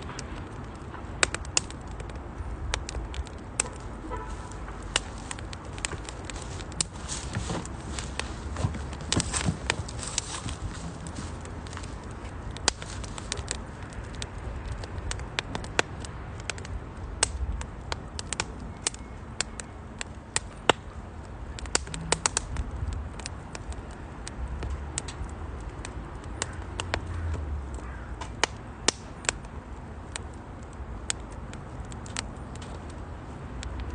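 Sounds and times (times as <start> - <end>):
firewood crackling in a stove: 0.0 - 33.9.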